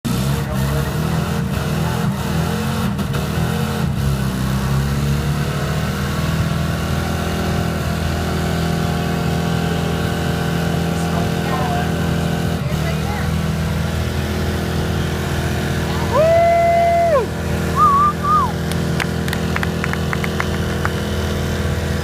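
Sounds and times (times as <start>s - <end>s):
vehicle engine at high revs: 0.0s - 22.0s.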